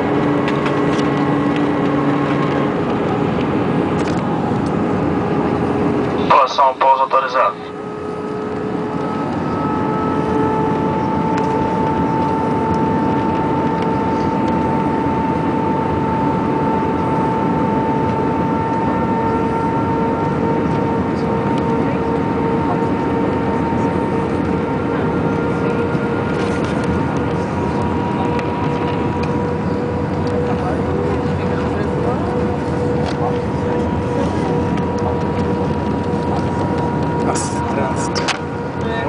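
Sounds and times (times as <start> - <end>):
engine whine: 0.0 - 39.0
jet engine and airflow noise: 0.0 - 39.0.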